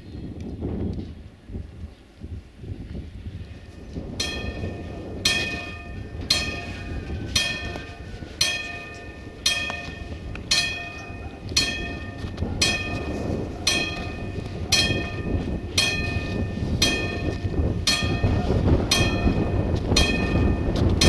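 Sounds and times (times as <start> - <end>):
level crossing warning bell: 3.7 - 21.0.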